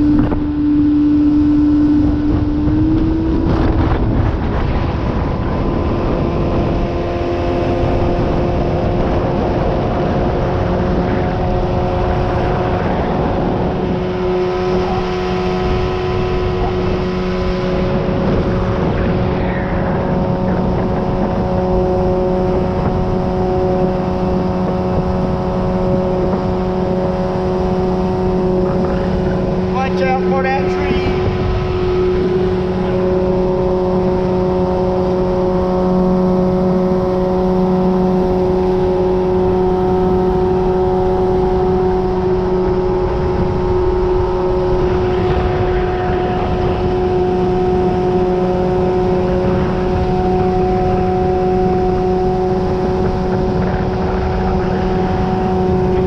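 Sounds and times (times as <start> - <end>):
boat outboard motor running: 0.0 - 56.0.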